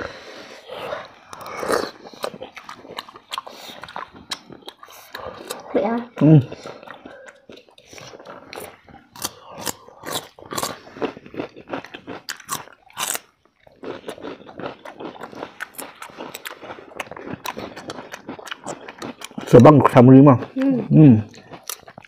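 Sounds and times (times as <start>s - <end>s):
people chewing and crunching: 0.0s - 22.0s.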